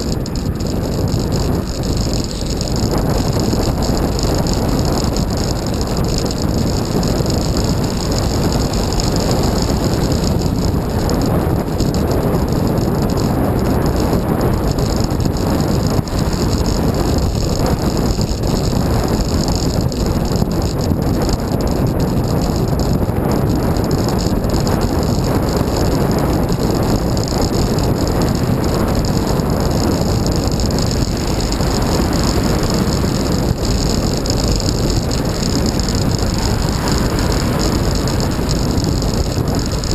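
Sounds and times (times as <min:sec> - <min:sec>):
wind rushing: 0:00.0 - 0:22.1, 0:22.9 - 0:39.9
road noise: 0:00.0 - 0:39.9.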